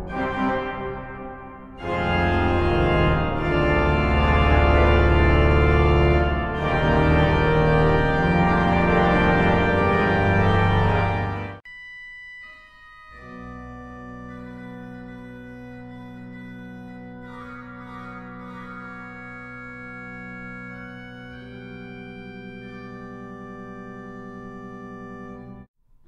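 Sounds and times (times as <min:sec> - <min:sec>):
pipe organ full chord: 0:00.0 - 0:11.7, 0:12.9 - 0:25.7
soft high held organ notes: 0:00.0 - 0:25.7.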